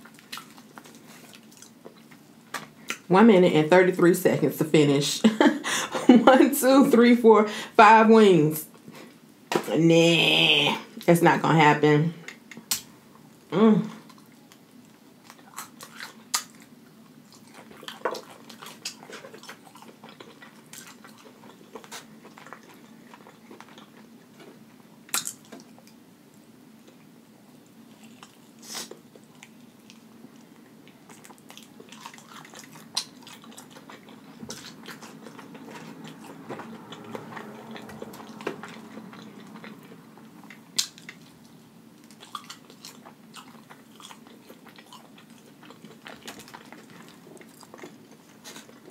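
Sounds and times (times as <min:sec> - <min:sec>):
chewing fried chicken: 0:00.0 - 0:03.1, 0:12.4 - 0:48.9.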